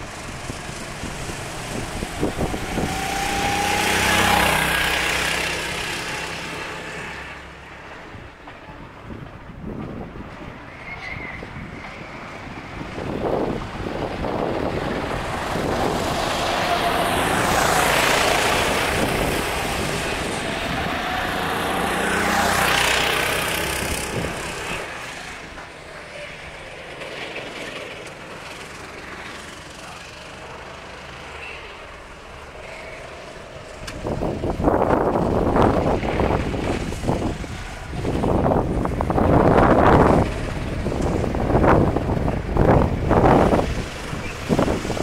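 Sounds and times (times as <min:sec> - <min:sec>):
tyres hissing on wet asphalt: 0:00.0 - 0:07.8, 0:12.6 - 0:27.4, 0:28.0 - 0:45.0
kart engines passing: 0:00.0 - 0:08.4, 0:11.9 - 0:45.0
distant drone of karts: 0:00.0 - 0:45.0.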